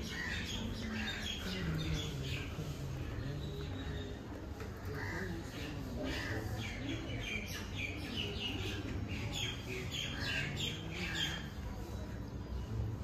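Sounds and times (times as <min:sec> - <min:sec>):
birds chirping and squawking: 0:00.0 - 0:12.7.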